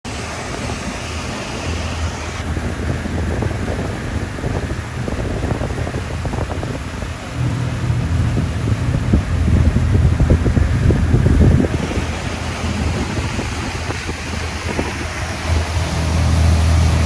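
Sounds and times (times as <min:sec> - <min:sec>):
boat engine droning: 0:00.0 - 0:17.0
wind buffeting microphone: 0:00.1 - 0:17.0.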